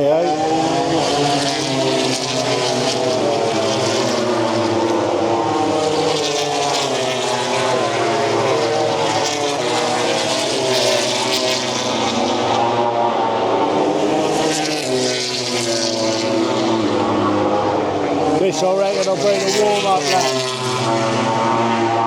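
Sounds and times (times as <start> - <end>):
racing motorcycles at high revs: 0.0 - 22.0.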